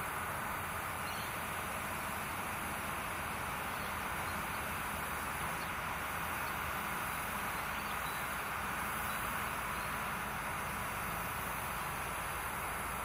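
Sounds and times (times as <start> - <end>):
distant diesel locomotive hum: 0.0 - 13.0
outdoor hiss: 0.0 - 13.0.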